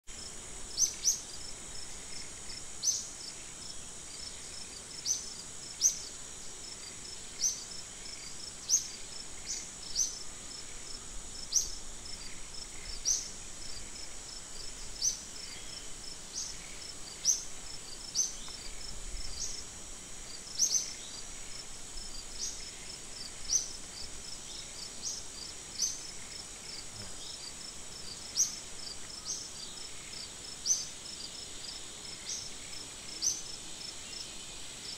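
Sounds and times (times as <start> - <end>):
high insect drone: 0.1 - 34.9.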